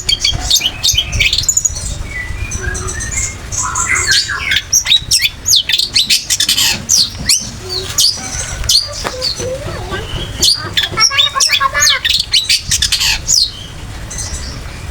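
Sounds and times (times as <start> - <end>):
bird singing: 0.0 - 14.9.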